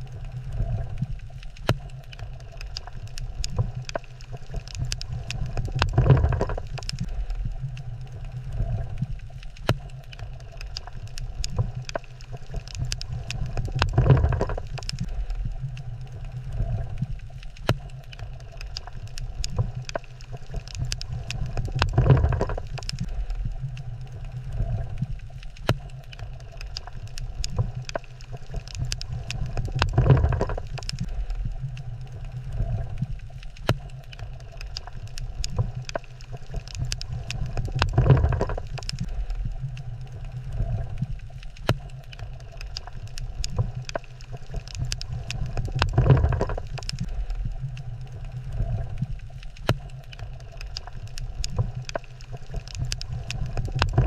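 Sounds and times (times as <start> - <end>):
sharp underwater clicks: 0.0 - 54.0
underwater rumble of moving water: 0.0 - 54.0.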